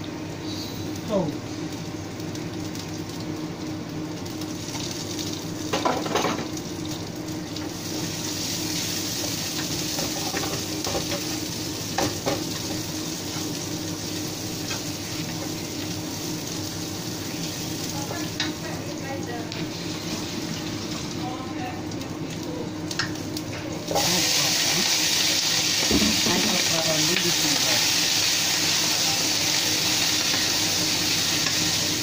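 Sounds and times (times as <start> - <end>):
garlic and onion sizzling: 0.0 - 32.0.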